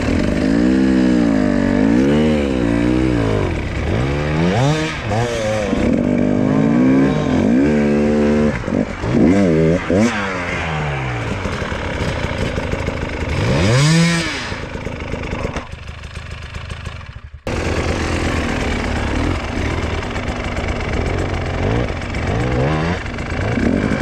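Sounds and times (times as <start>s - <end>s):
dirt bike engines running: 0.0s - 24.0s.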